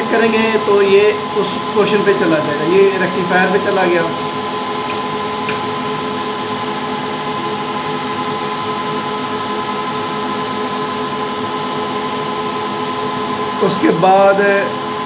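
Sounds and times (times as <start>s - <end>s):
high-pitched whining tones: 0.0s - 14.9s
machine hum and whir: 0.0s - 15.0s.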